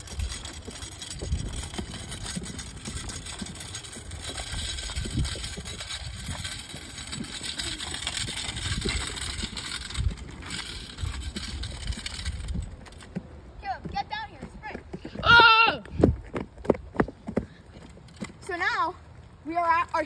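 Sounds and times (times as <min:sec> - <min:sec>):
scooter wheels rattling on asphalt: 0:00.0 - 0:20.0.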